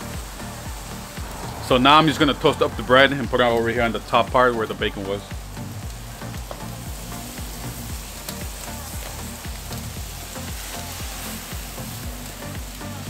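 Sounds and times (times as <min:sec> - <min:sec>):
background music with low beat: 0:00.0 - 0:13.0
meat sizzling on a griddle: 0:00.0 - 0:13.0.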